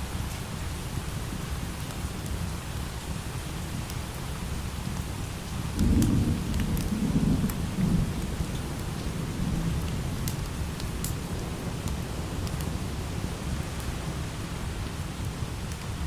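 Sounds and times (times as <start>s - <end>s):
light rain: 0.0s - 16.0s.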